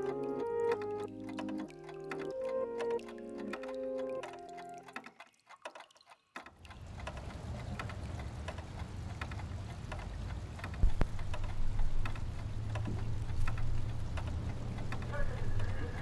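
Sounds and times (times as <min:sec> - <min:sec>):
ticks and clicks: 0:00.0 - 0:16.0.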